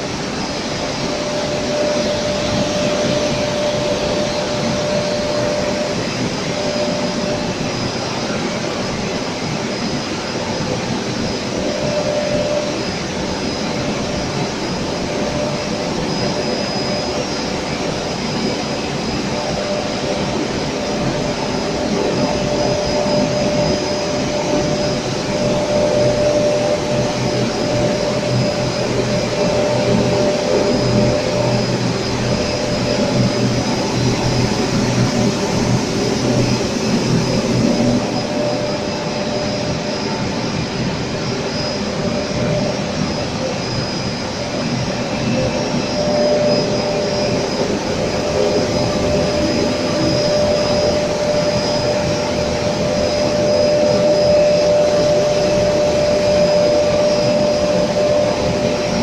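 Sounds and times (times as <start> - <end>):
extrusion machine noise: 0.0 - 59.0
faint high whine: 0.0 - 59.0.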